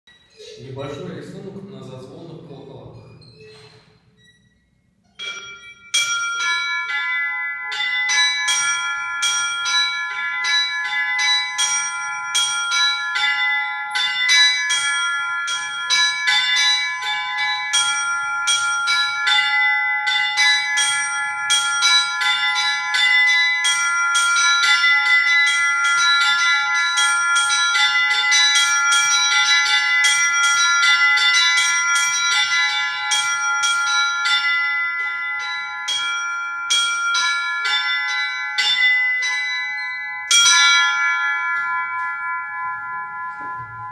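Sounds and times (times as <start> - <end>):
small bells ringing in a pattern: 4.1 - 43.9.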